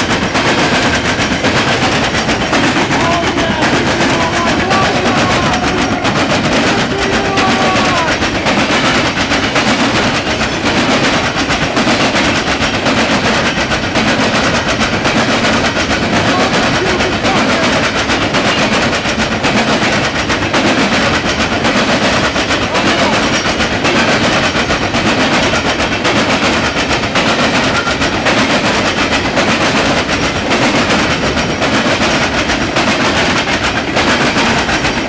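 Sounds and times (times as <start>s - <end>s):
steel wheels clattering over track: 0.0s - 35.0s.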